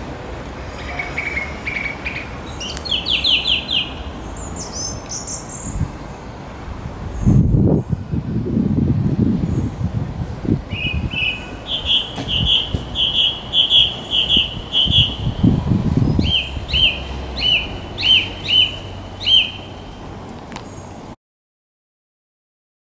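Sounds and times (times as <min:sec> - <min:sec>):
songbird singing: 0:00.0 - 0:08.2, 0:09.4 - 0:21.1.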